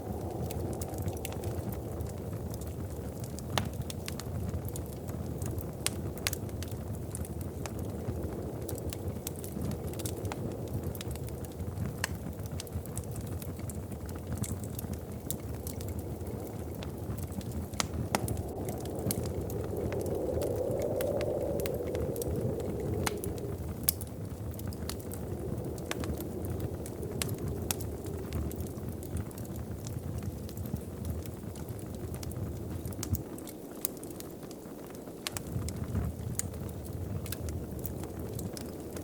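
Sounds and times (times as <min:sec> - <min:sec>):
low rumble of flames: 0:00.0 - 0:39.0
wood fire crackling: 0:00.0 - 0:39.0
sharp pops from fire: 0:00.1 - 0:39.0.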